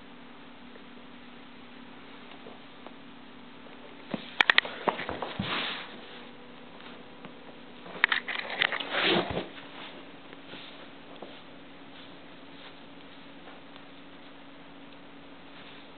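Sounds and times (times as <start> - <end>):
faint low hum: 0.0 - 15.9.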